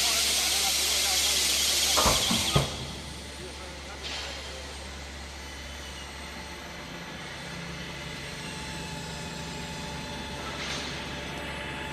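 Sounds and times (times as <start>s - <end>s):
factory machinery humming: 0.0s - 11.9s.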